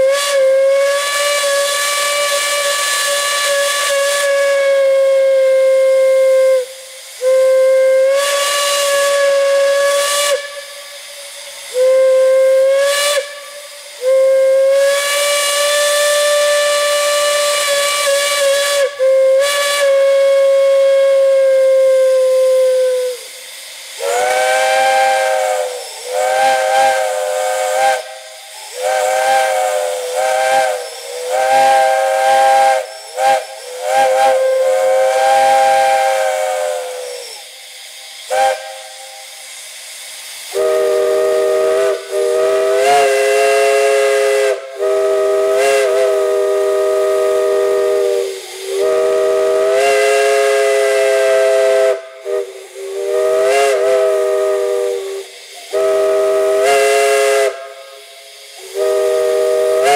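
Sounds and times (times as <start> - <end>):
high-pitched steam whistle toots: 0.0 - 59.9
low-pitched steam chime blasts: 0.0 - 59.9
steam hissing: 0.0 - 59.9.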